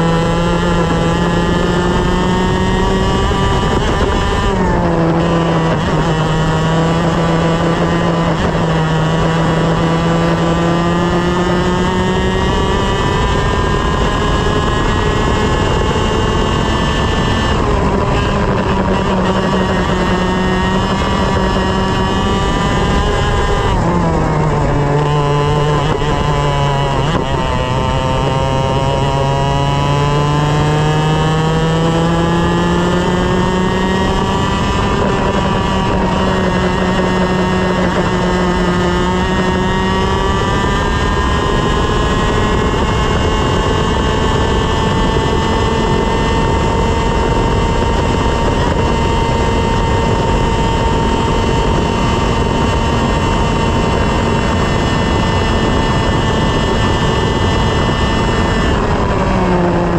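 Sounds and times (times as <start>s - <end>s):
kart engine revving: 0.0s - 59.9s
wind and road noise: 0.0s - 59.9s.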